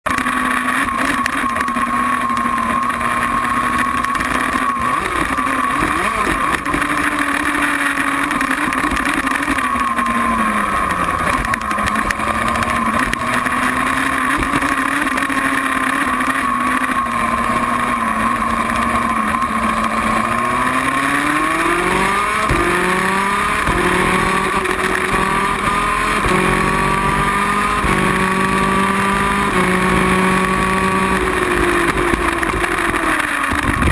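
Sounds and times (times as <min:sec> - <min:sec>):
kart engine racing: 0:00.0 - 0:33.9.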